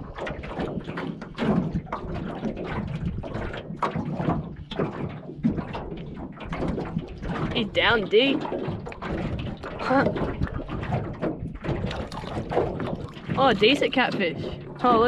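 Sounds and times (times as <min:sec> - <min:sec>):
knocks and rattles: 0:00.0 - 0:15.0
water slapping boat hull: 0:00.0 - 0:15.0.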